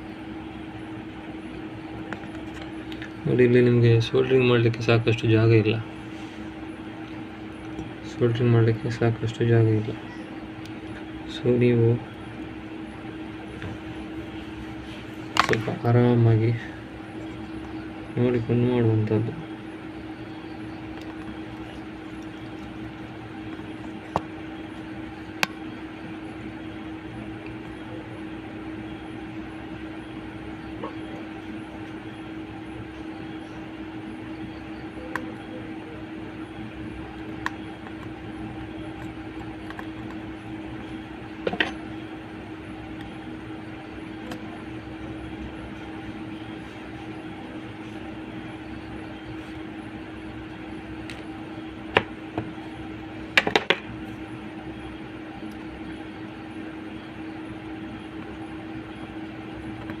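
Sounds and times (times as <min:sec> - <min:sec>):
steady mechanical hum: 0:00.0 - 1:00.0.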